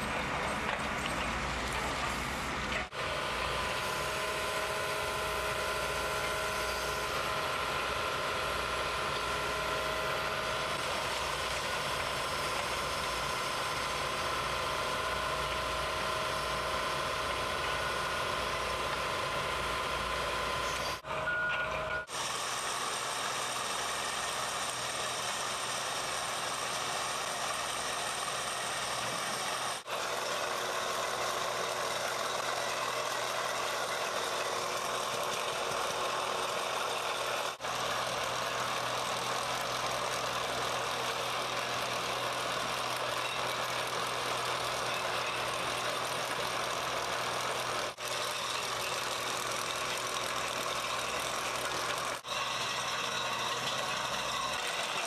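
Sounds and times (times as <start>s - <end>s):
heavy machinery noise: 0.0s - 55.0s.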